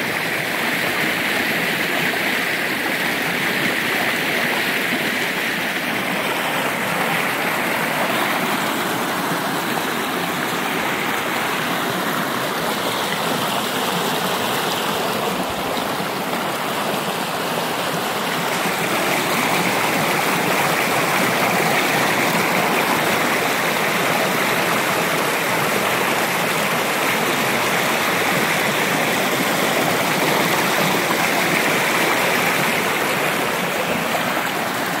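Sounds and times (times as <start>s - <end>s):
water rushing over rocks: 0.0s - 35.0s.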